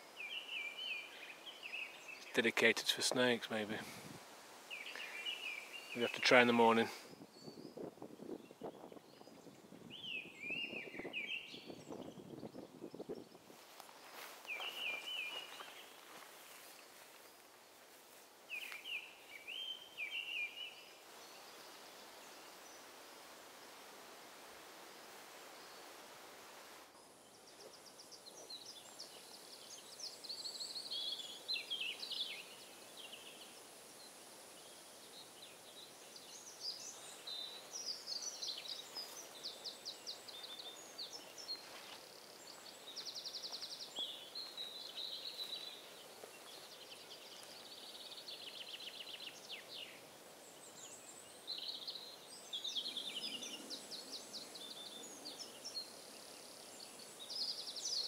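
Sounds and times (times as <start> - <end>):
songbirds singing: 0.0 - 26.2, 26.9 - 58.0
faint steady hiss: 0.0 - 58.0.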